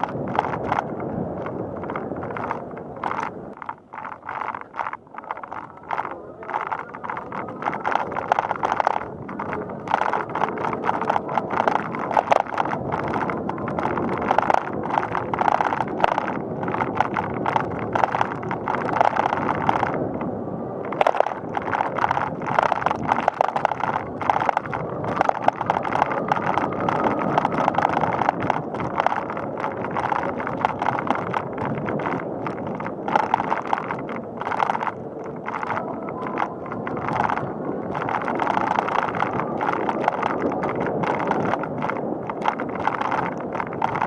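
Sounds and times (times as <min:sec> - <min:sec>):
bicycle rattling and clicking: 0:00.0 - 0:44.0
bicycle tyres on pavement: 0:00.0 - 0:44.0.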